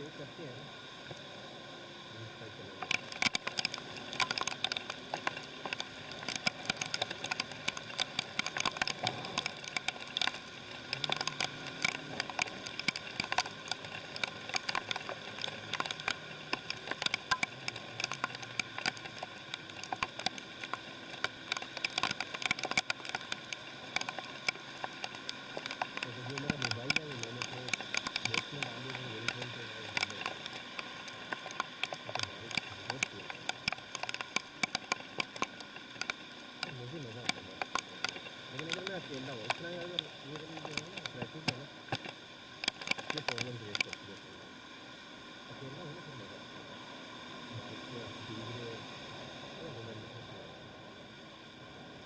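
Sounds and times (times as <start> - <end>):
rain pattering: 2.1 - 44.6, 45.4 - 48.9.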